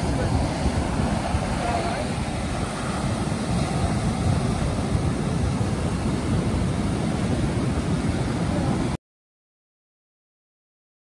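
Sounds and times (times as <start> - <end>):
ocean surf: 0.0 - 9.0
wind buffeting microphone: 0.0 - 9.0.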